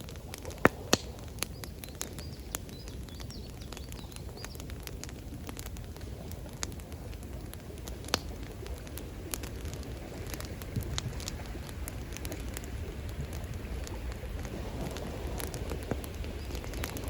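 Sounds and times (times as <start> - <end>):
campfire crackling and popping: 0.0 - 17.0
rushing water: 0.0 - 17.0.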